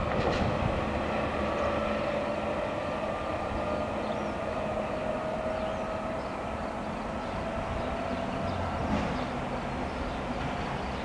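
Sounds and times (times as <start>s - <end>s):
train rail rumble: 0.0s - 11.0s.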